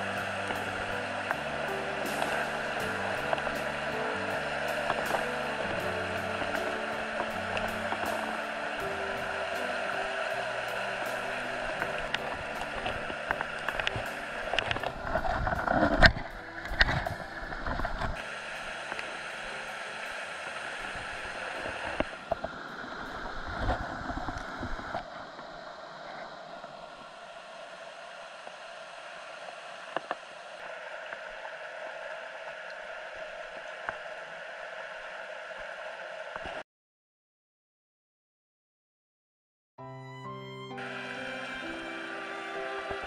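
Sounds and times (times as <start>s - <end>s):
stream rushing over rocks: 0.0s - 36.6s, 40.8s - 43.0s.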